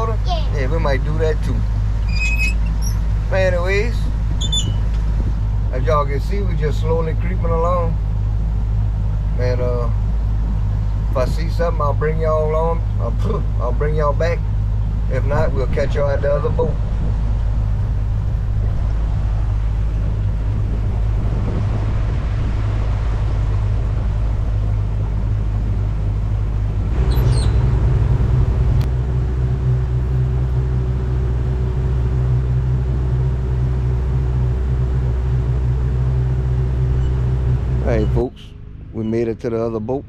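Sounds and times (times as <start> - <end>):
water and wind hiss: 0.0 - 38.4
small boat motor running: 0.0 - 40.0.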